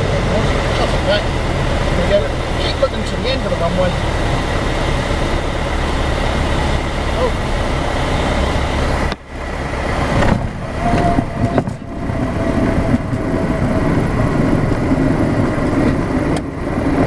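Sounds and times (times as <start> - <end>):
propeller engine drone: 0.0 - 17.0.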